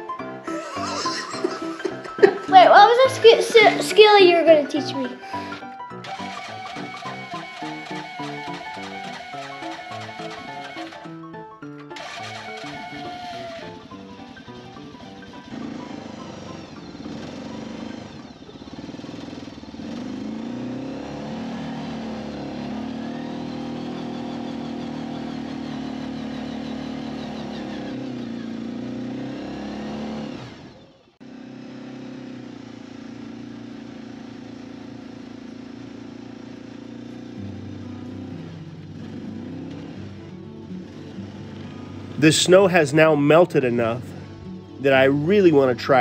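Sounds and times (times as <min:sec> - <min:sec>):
vehicle engine driving over snow: 0:02.0 - 0:11.2, 0:11.8 - 0:46.0.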